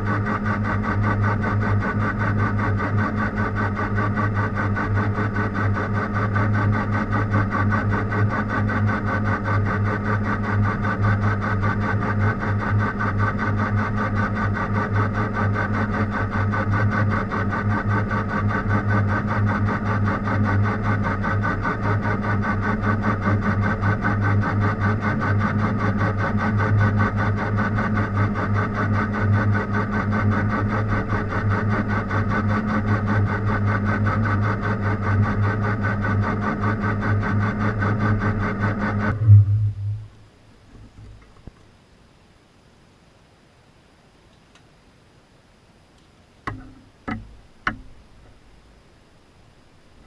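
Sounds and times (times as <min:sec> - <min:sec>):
machine tool motor hum pulsing: 0:00.0 - 0:41.6, 0:46.4 - 0:50.0.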